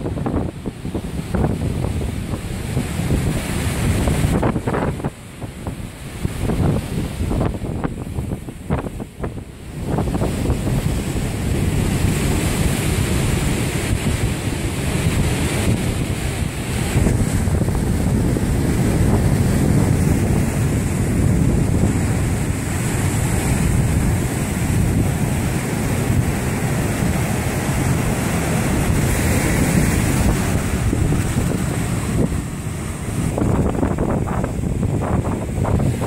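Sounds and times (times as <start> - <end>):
ocean surf breaking: 0.0 - 36.0
wind rumbling on microphone: 0.0 - 36.0.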